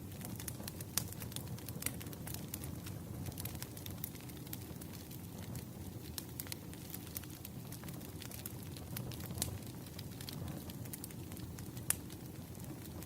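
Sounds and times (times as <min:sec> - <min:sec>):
firewood crackling and popping: 0:00.0 - 0:13.0
flames rumbling: 0:00.0 - 0:13.0.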